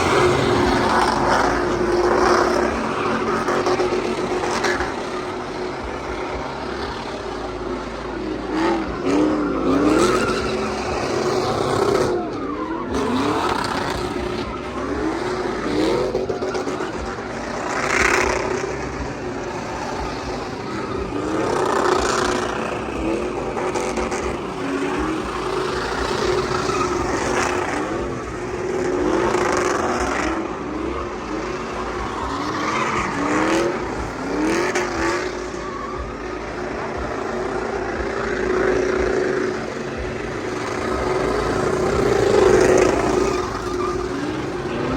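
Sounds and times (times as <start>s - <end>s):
tires squealing and skidding: 0.0s - 44.9s
truck engine revving hard: 0.0s - 44.9s.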